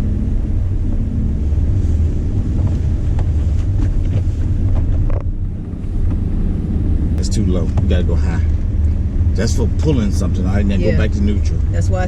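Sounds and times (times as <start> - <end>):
vehicle engine rumble inside cabin: 0.0 - 12.0.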